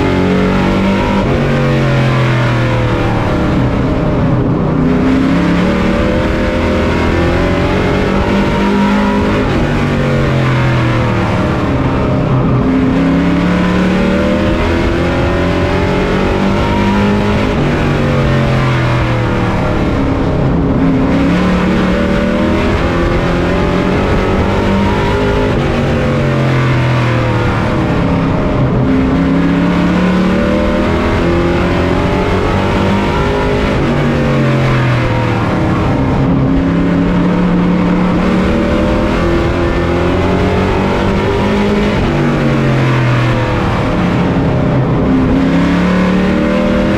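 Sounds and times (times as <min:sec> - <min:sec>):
race truck engine: 0:00.0 - 0:46.9.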